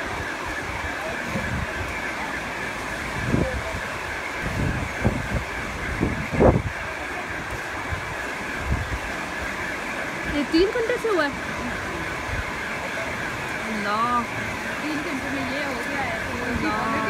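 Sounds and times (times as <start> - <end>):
rain hissing on flooded street: 0.0 - 17.0
wind gusting on microphone: 0.0 - 17.0.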